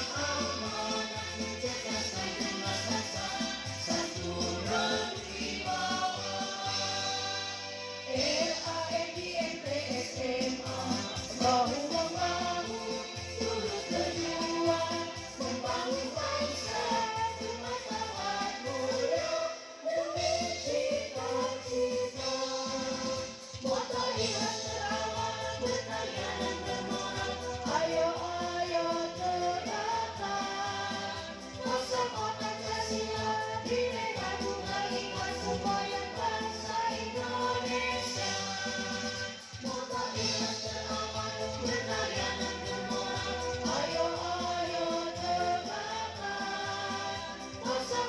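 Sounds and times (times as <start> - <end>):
backing music bass line: 0.0 - 48.0
group singing together: 0.0 - 48.0.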